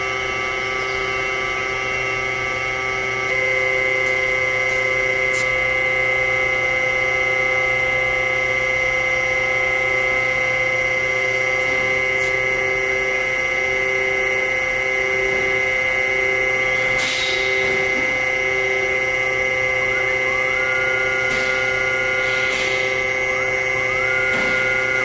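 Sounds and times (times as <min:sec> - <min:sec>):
constant whining tones: 0:00.0 - 0:25.0
grinder machine hum: 0:00.0 - 0:25.0
low pulsing tone: 0:00.0 - 0:25.0.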